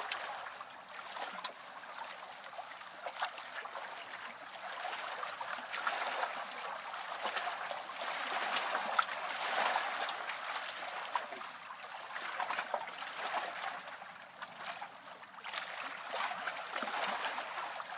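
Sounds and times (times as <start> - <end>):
water drips and splashes: 0.0 - 17.9
water lapping and trickling: 0.0 - 17.9.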